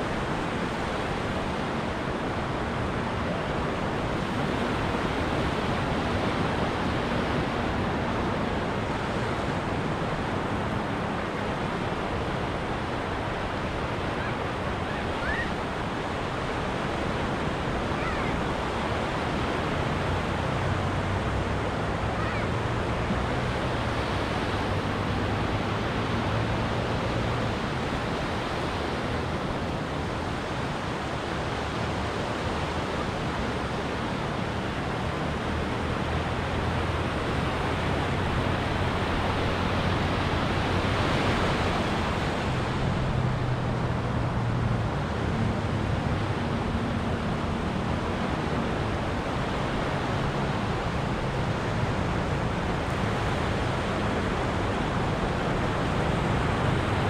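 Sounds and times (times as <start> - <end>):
ocean surf on beach: 0.0 - 57.0.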